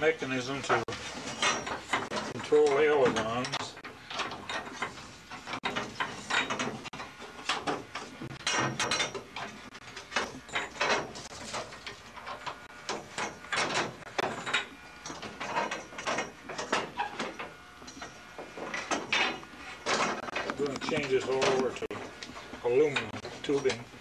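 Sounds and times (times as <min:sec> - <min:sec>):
metallic clicks and rattles: 0:00.7 - 0:23.9.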